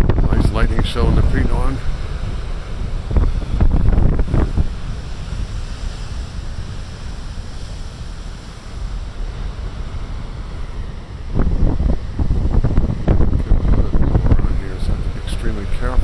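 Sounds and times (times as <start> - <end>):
ocean waves breaking on rocks: 0.0 - 16.0
wind buffeting microphone: 0.0 - 16.0.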